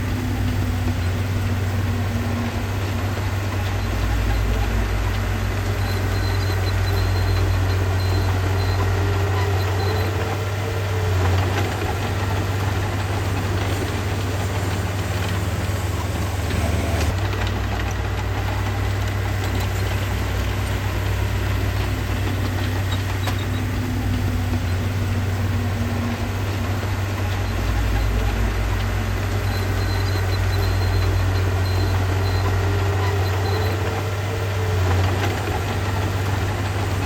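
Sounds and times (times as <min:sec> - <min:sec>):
diesel engine droning: 0:00.0 - 0:37.0.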